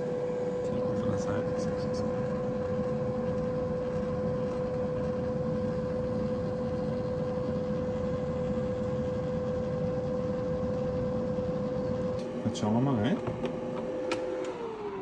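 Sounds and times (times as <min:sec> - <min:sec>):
air fryer fan drone: 0:00.0 - 0:15.0
constant whining tone: 0:00.0 - 0:15.0.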